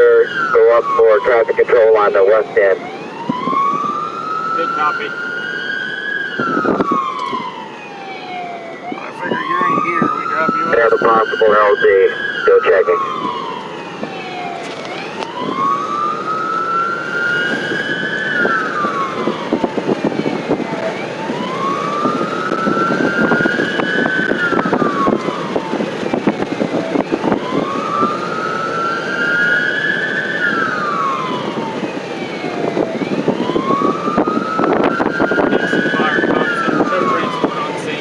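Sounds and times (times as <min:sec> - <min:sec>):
emergency vehicle siren wailing: 0:00.0 - 0:38.0
moving vehicle rumble and rattle: 0:01.4 - 0:11.3, 0:13.0 - 0:38.0.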